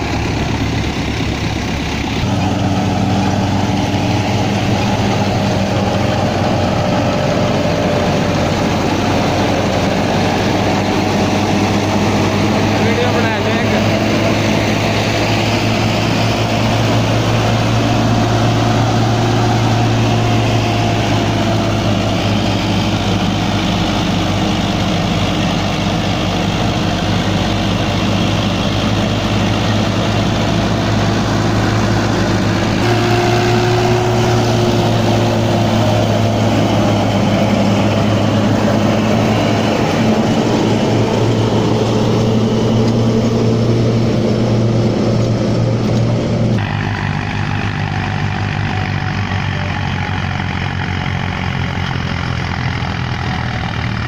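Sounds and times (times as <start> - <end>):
reaper working noise: 0.0 - 54.0
tractor diesel engine under load: 0.0 - 54.0.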